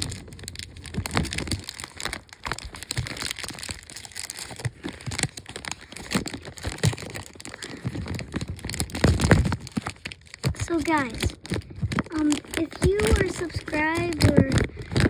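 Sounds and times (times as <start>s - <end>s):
plastic crinkling and rustling: 0.0s - 15.0s.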